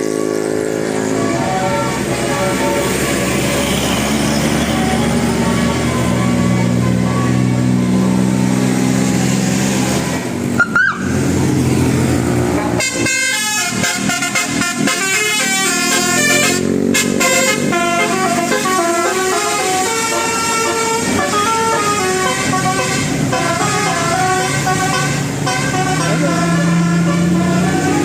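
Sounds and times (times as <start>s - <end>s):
bus multi-note horn tune: 0.0s - 28.0s.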